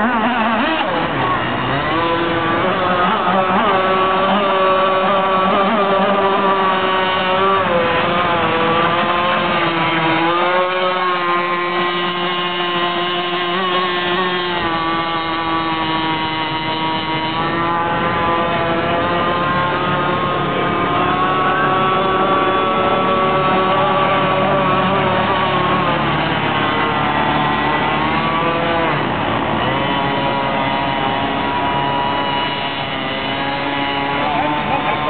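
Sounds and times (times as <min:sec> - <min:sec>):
speedboat engine at high revs: 0:00.0 - 0:35.0.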